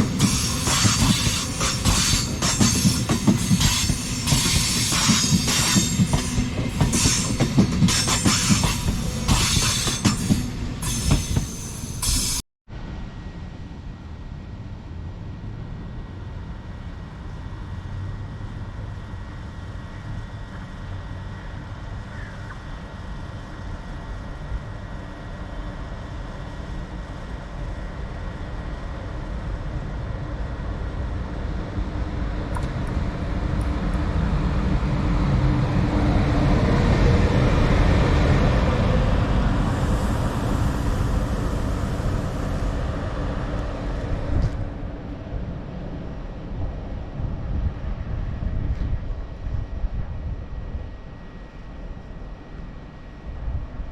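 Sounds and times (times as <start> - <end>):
train passing rumble: 0.0 - 53.9.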